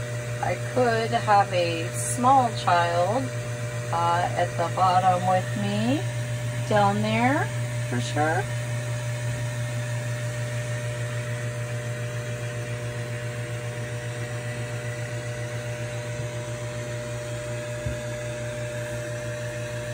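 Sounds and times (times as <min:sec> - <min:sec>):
air compressor humming and pulsing: 0:00.0 - 0:19.9.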